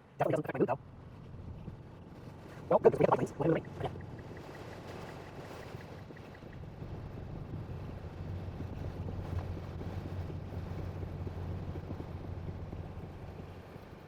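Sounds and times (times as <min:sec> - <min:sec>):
low tyre rumble: 0:00.0 - 0:14.0.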